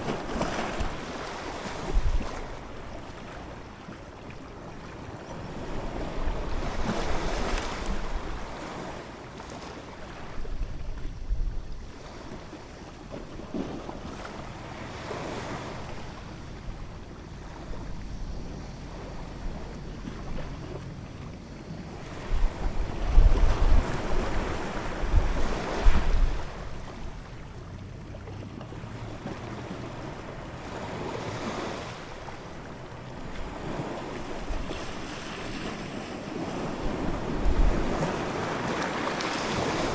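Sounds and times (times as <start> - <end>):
ocean waves breaking: 0.0 - 11.1, 11.8 - 39.9.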